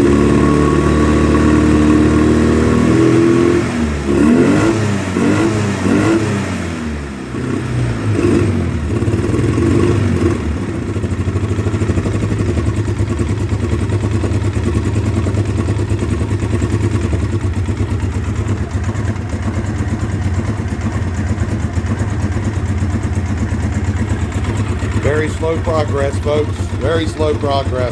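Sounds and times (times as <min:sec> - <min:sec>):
atv engine revving and idling: 0:00.0 - 0:27.9.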